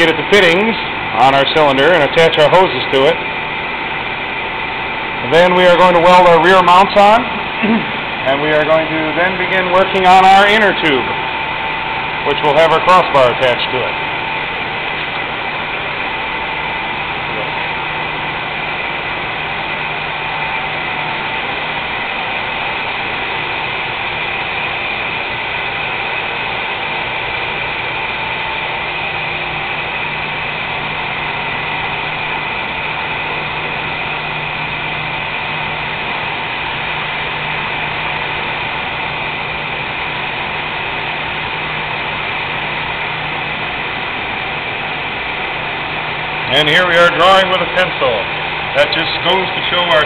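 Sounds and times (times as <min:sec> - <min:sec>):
shop machinery drone: 0:00.0 - 0:50.0.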